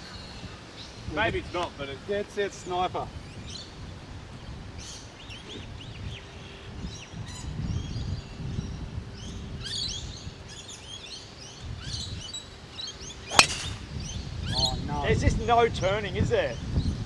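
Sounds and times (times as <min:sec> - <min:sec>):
wind rumble on microphone: 0:00.0 - 0:17.0
birds chirping and calling: 0:02.6 - 0:17.0.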